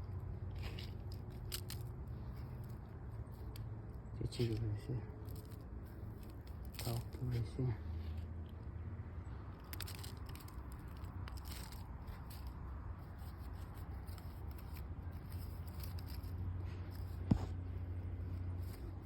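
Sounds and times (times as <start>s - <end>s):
gritty rustling of manure: 0.0s - 19.0s.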